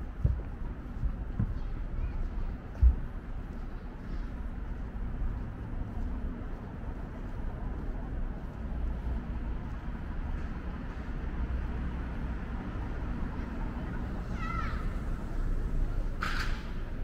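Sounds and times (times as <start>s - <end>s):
road traffic drone: 0.0s - 17.0s.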